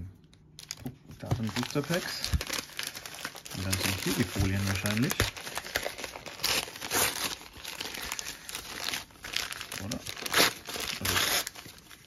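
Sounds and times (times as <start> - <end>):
packing paper crinkling: 0.6 - 12.0.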